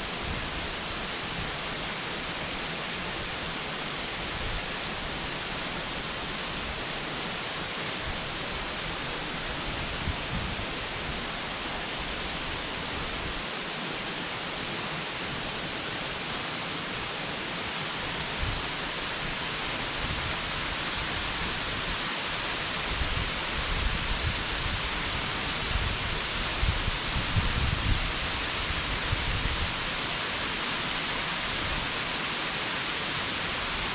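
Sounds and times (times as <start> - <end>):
distant waterfall rushing: 0.0 - 33.9.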